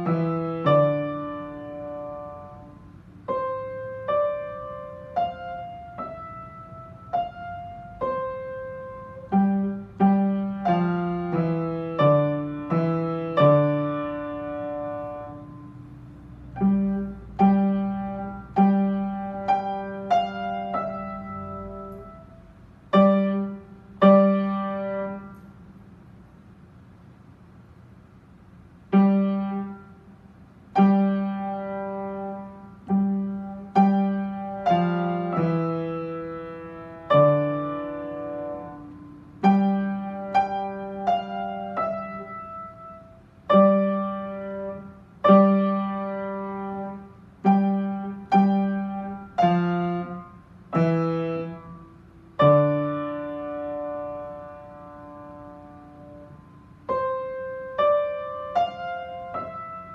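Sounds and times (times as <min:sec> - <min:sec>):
upright piano chords: 0:00.0 - 0:59.9.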